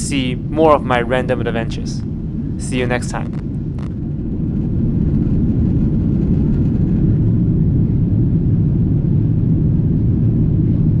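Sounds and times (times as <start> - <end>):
low rumble of moving vehicle: 0.0 - 11.0.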